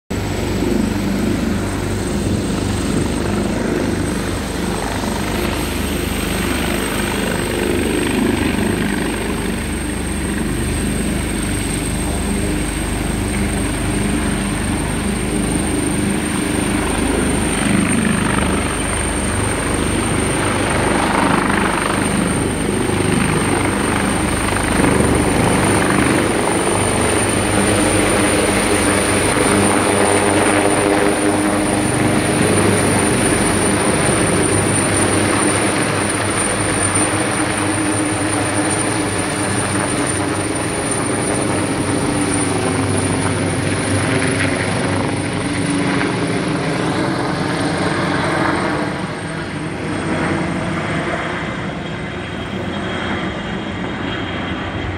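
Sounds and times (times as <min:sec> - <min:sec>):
helicopter rotor thrum: 0:00.1 - 0:54.9
turbine whine: 0:00.1 - 0:54.9.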